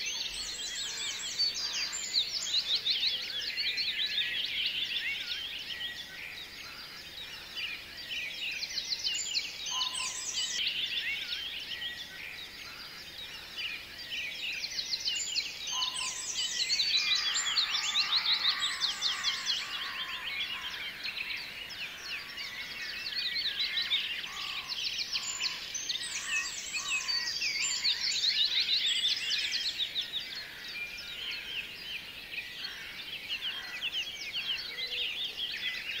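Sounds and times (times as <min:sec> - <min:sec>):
small birds chirping and trilling: 0:00.0 - 0:36.0.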